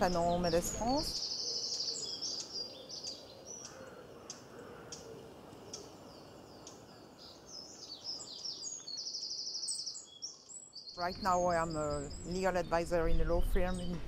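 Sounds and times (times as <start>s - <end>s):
birds chirping: 0.0s - 14.0s
faint background noise: 0.0s - 14.0s.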